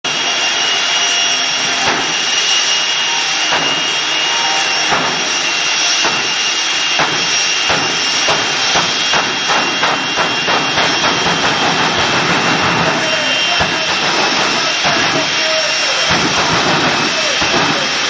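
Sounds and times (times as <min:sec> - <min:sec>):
jet engine roaring and whining: 0:00.0 - 0:18.0.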